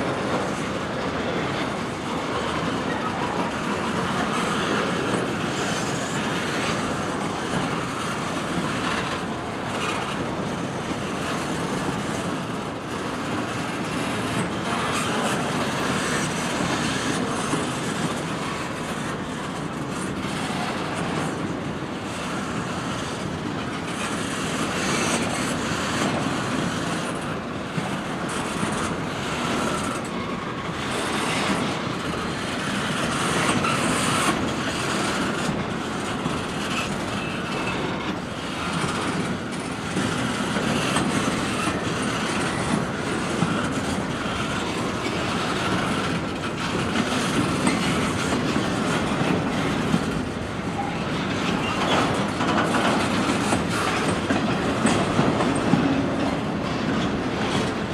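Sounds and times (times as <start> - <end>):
freight train cars rumbling past: 0.0 - 57.9
wheels clacking over rail joints: 0.0 - 57.9.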